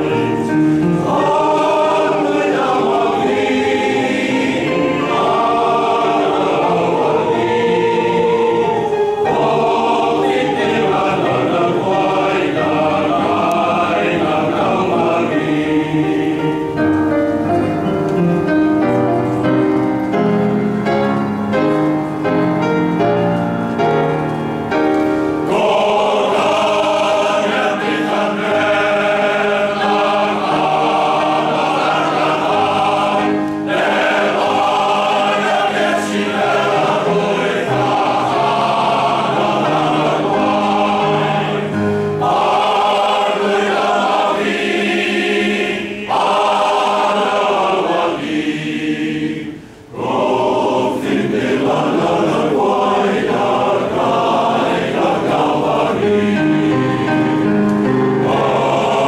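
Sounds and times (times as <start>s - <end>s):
male voice choir singing: 0.0s - 16.8s, 25.5s - 57.6s, 58.2s - 59.0s
piano: 0.0s - 59.0s.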